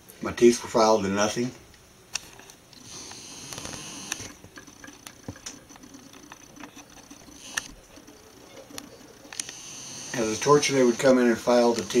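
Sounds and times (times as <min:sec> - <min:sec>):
faint clicks and ticks: 0:01.7 - 0:12.0.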